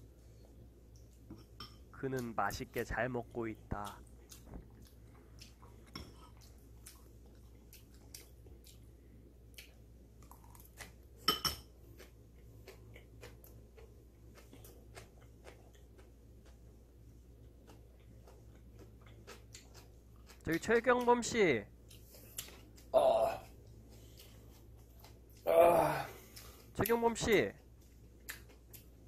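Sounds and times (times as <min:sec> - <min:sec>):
person chewing with lip-smacking: 0:02.1 - 0:21.2, 0:21.8 - 0:29.0.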